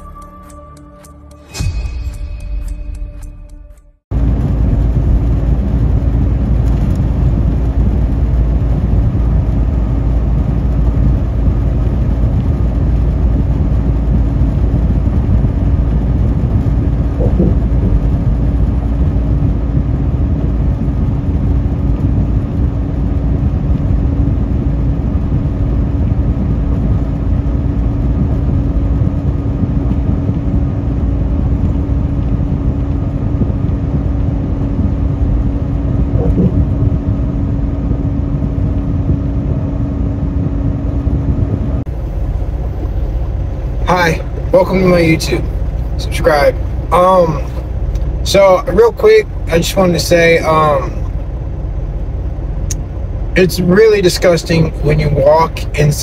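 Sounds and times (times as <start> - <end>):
engine hum: 0.0 - 56.0
truck cab road rumble: 0.0 - 56.0.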